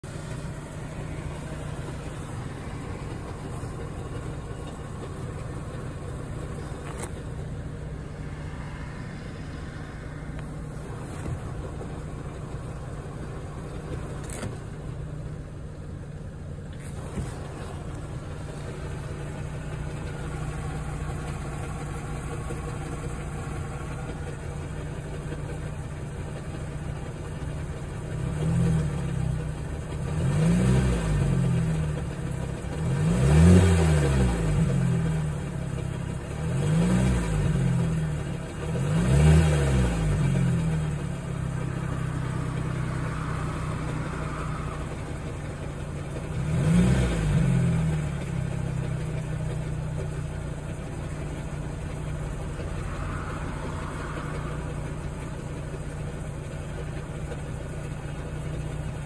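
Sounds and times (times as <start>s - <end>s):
car engine idling: 0.0s - 59.0s
car engine revving: 0.0s - 59.0s
extra noise over engine idle: 0.0s - 59.0s.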